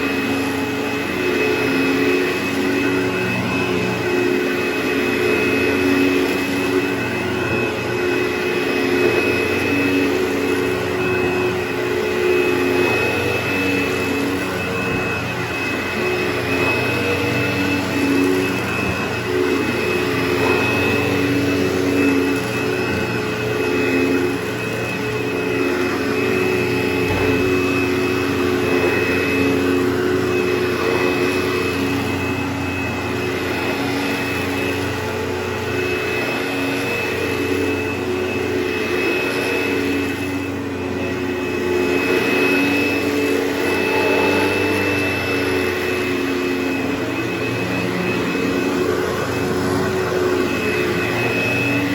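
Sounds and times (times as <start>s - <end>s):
vacuum cleaner motor running: 0.0s - 51.9s.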